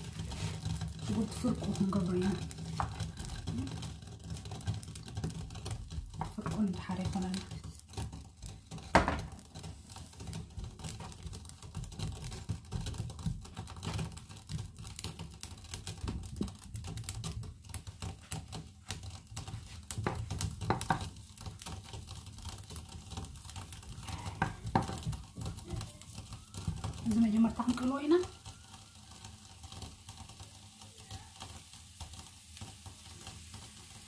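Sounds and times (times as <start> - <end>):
onions frying in oil: 0.0 - 34.0
wooden spatula stirring: 0.0 - 34.0.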